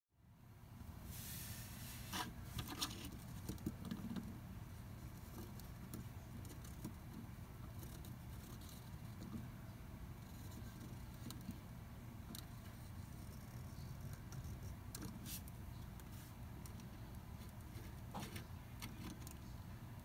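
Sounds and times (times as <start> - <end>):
steady low hum: 0.2 - 20.0.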